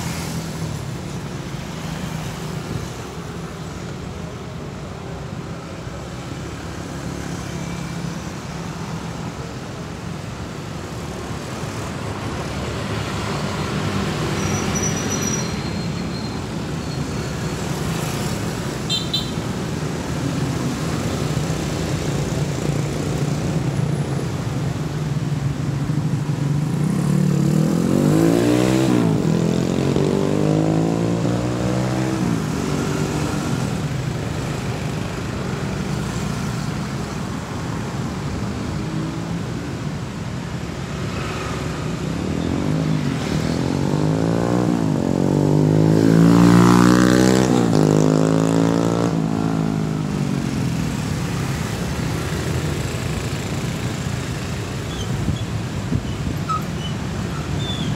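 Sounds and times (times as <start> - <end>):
motorcycles and scooters passing: 0.0 - 4.1, 5.4 - 57.9
cars passing: 0.0 - 57.9.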